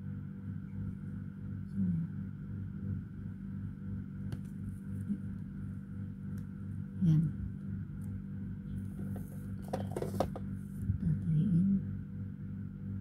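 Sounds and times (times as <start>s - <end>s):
pulsing mechanical hum: 0.0s - 13.0s.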